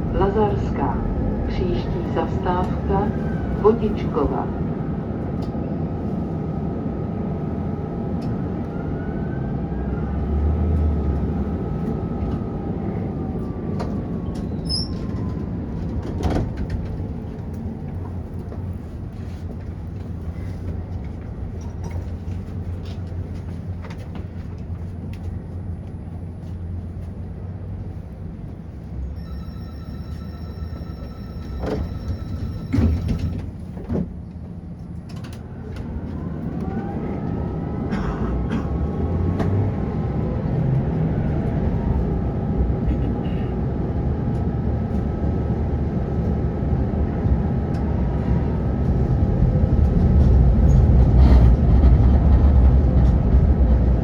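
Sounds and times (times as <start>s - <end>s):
tram motor and wheels rumbling: 0.0s - 54.0s.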